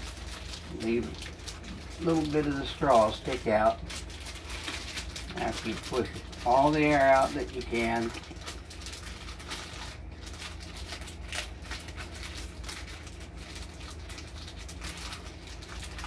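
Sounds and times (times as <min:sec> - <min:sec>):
plastic bag crinkling: 0:00.0 - 0:16.0
steady low hum: 0:00.0 - 0:16.0.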